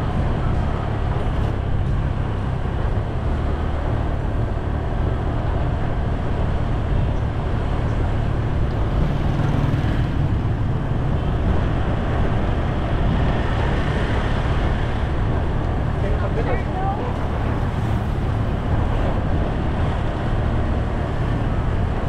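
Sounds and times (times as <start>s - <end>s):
vehicle rumbling on paved road: 0.0s - 22.0s.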